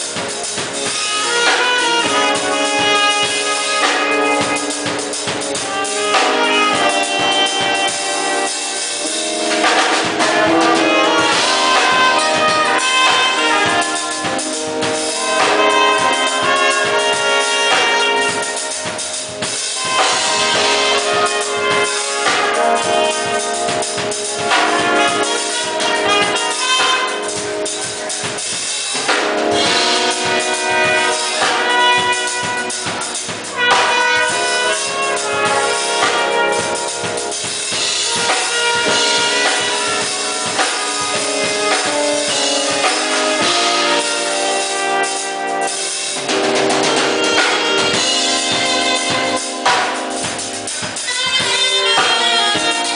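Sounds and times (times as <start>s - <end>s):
instrumental music with drums and brass: 0.0s - 52.9s.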